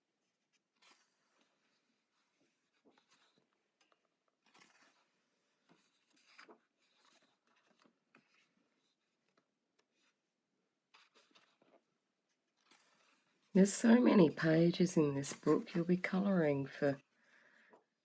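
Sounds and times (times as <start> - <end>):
paper pages turning: 0.1 - 14.0, 14.7 - 17.8.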